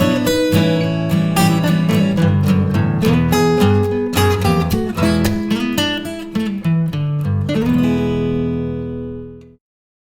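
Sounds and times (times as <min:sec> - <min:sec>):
acoustic guitar music: 0:00.0 - 0:09.6.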